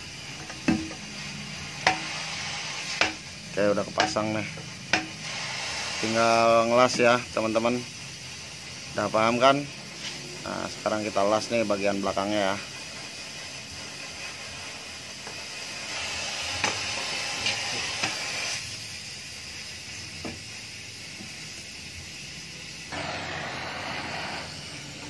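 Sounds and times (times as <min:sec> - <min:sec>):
welding torch flame hissing: 0:00.0 - 0:25.0.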